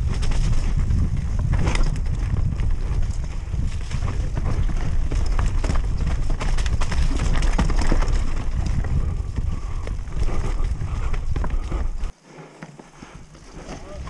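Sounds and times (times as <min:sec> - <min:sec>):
mountain bike rattling over trail: 0:00.0 - 0:12.1
wind rumble on microphone: 0:00.0 - 0:12.1.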